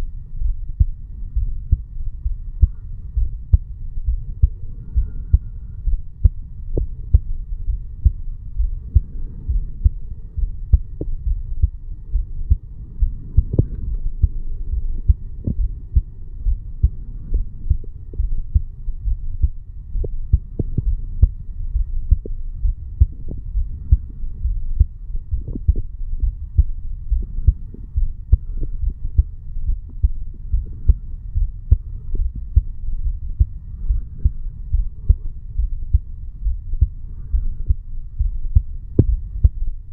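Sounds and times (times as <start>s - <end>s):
heartbeat thuds: 0.0s - 39.9s.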